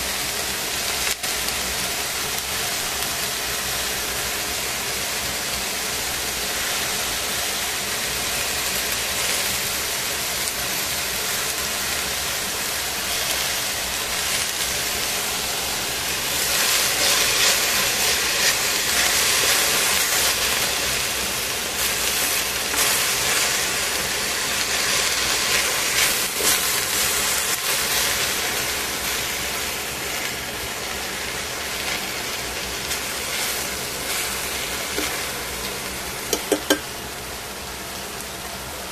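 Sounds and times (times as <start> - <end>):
vegetables sizzling in a pot: 0.0 - 38.9.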